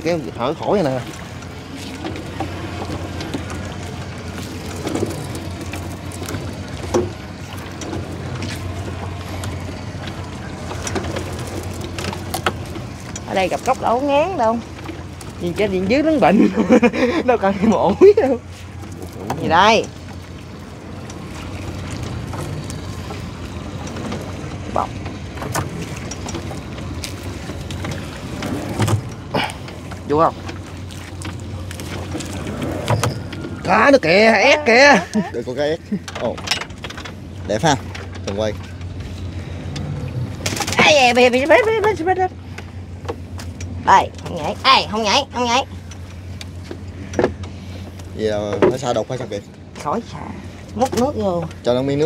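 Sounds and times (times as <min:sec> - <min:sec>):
boat engine idling: 0:00.0 - 0:52.0.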